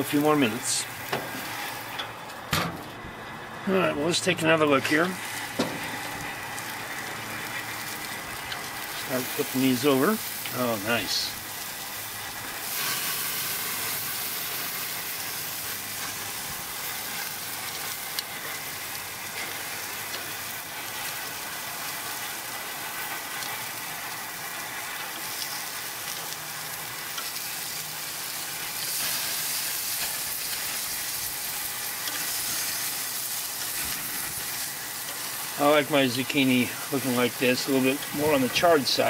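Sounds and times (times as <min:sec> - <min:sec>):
vegetables sizzling on grill: 0:00.0 - 0:39.0.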